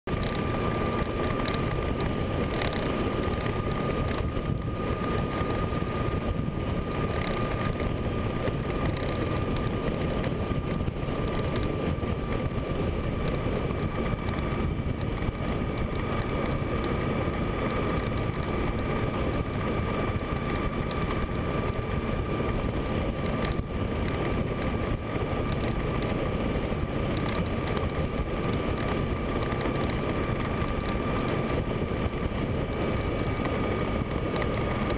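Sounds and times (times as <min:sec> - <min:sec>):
motorcycle engine and road noise: 0:00.1 - 0:34.9
steady high whine: 0:00.1 - 0:34.9
wind rushing over microphone: 0:00.1 - 0:34.9.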